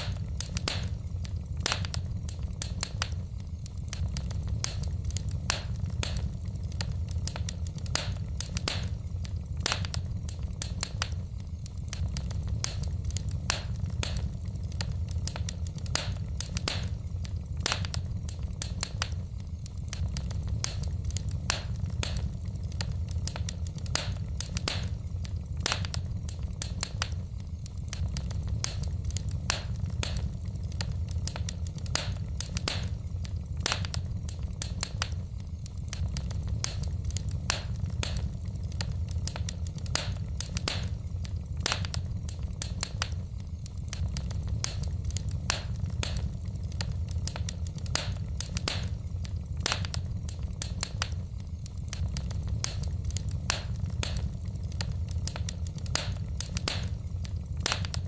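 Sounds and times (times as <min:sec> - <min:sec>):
logs crackling and popping in fireplace: 0:00.0 - 0:58.0
low fire rumble: 0:00.0 - 0:58.0.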